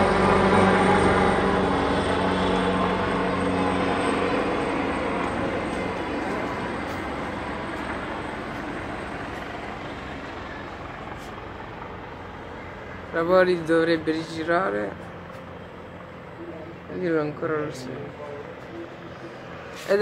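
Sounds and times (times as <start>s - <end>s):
helicopter flying away: 0.0s - 20.0s.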